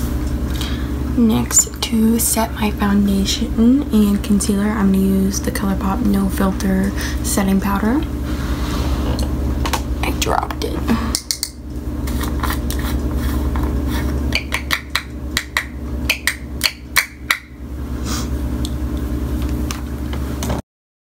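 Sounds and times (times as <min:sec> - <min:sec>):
steady low hum: 0:00.0 - 0:20.6.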